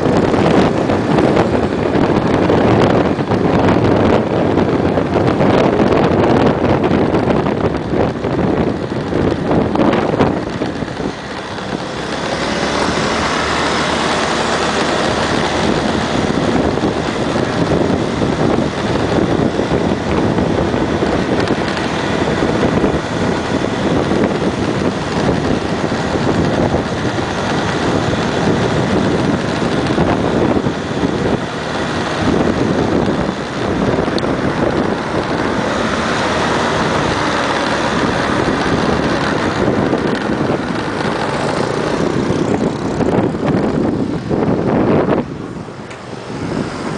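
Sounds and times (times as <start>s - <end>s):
small motorbike running: 0.0s - 46.9s
wind rushing over microphone: 0.0s - 46.9s.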